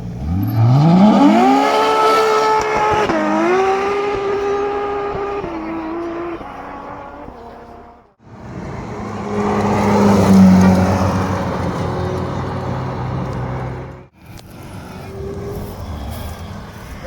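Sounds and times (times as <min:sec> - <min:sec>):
sports car driving past: 0:00.0 - 0:17.0.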